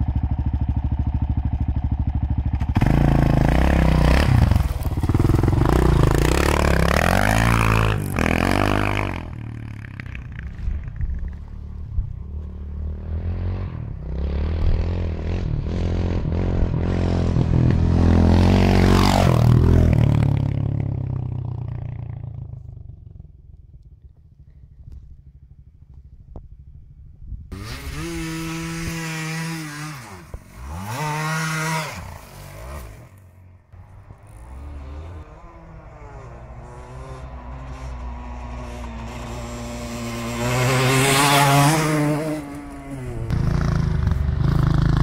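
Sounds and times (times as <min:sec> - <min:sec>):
motorcycle passing by: 0:00.0 - 0:23.1, 0:27.5 - 0:45.0
two-stroke motorcycle revving: 0:00.0 - 0:23.3, 0:27.5 - 0:45.0.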